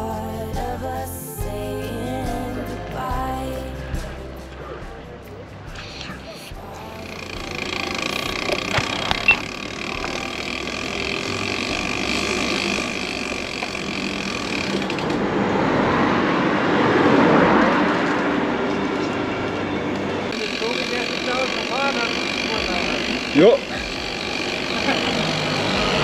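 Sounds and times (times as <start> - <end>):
vehicle running noise: 1.4 - 26.0
rushing noise: 3.8 - 26.0.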